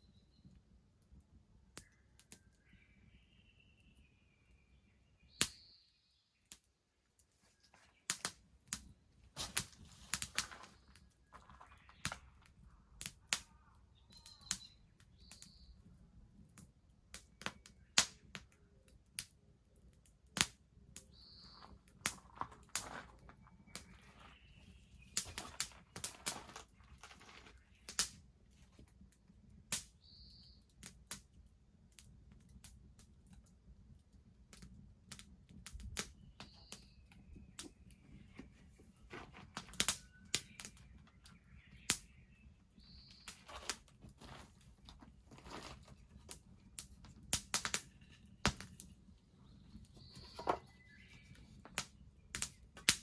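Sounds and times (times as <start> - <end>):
bonfire crackling and popping: 8.0 - 15.6, 16.2 - 53.0.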